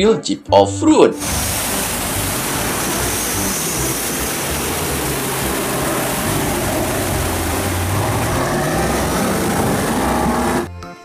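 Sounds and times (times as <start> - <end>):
engine running hard: 1.2 - 10.7
steady rushing noise: 1.2 - 10.7
vehicle churning through mud: 1.2 - 10.7.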